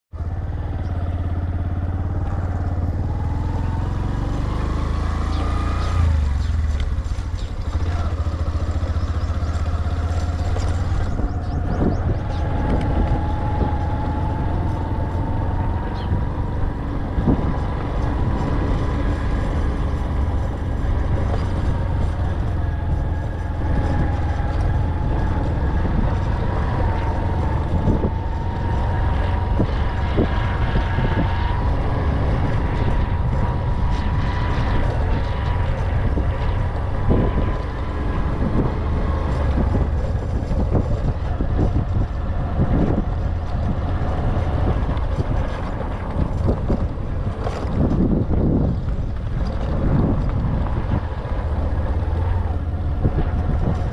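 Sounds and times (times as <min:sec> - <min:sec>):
vehicle engine rumbling: 0:00.1 - 0:53.9.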